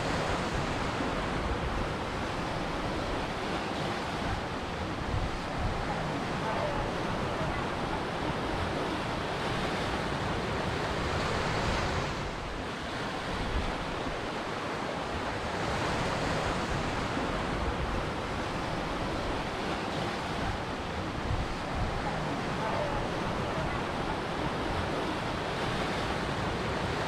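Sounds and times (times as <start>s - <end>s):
ocean surf breaking on shore: 0.0s - 27.0s.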